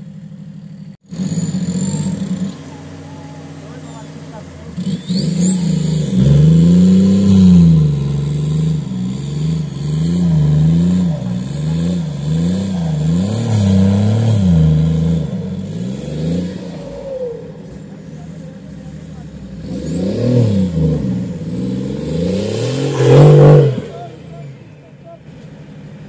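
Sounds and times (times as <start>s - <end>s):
off-road engine revving: 0.0s - 26.0s.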